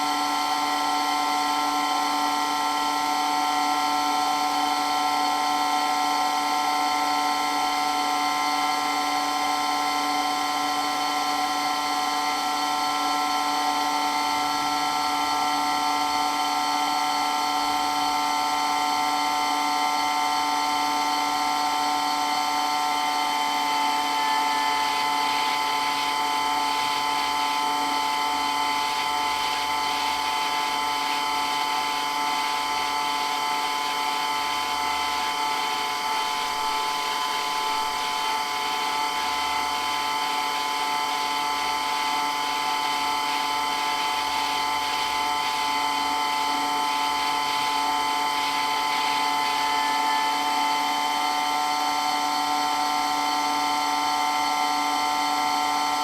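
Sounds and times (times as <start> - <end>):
water pump motor whine: 0.0 - 56.0.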